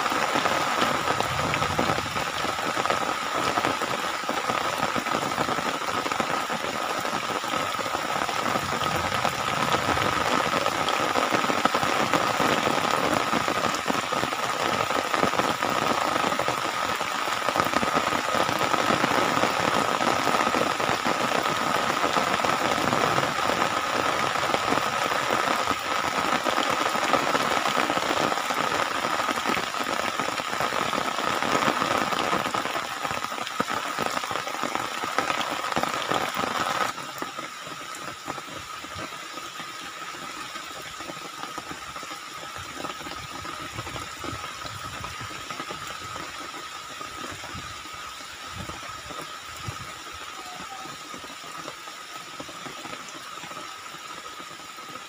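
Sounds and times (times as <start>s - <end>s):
rain falling on wet ground: 0.0s - 55.0s.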